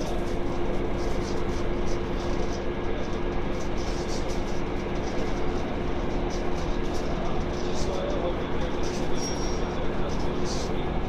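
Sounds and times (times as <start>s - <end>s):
train rumbling with droning hum: 0.0s - 11.0s.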